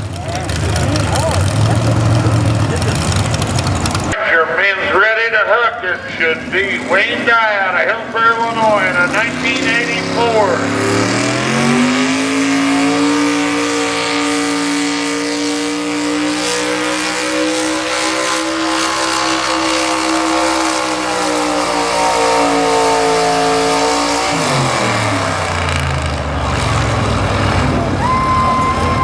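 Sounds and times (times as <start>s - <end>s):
truck engine at full throttle: 0.0s - 4.2s, 5.2s - 29.0s.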